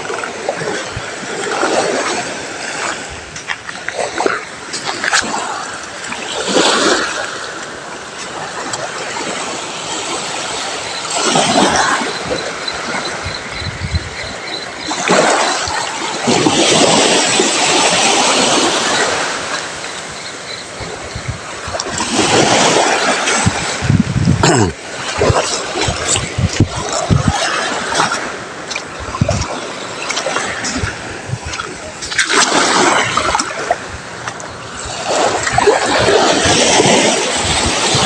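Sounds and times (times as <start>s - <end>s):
sea waves washing on shore: 0.0s - 38.0s.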